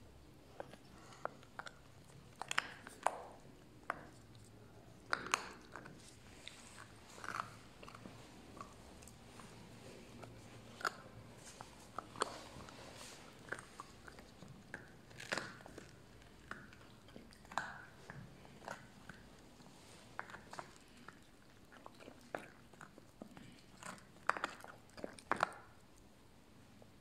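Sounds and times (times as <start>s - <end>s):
puppy crunching a bone: 0.3s - 26.2s.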